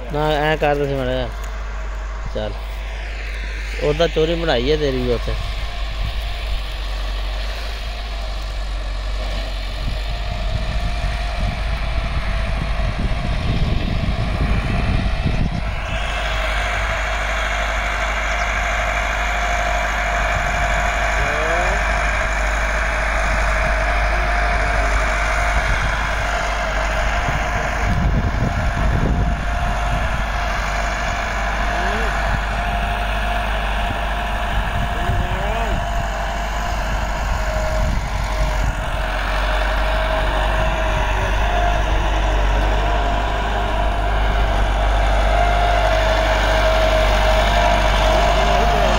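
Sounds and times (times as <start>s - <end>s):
high hum: 0.0s - 48.9s
tractor diesel engine running: 0.0s - 48.9s.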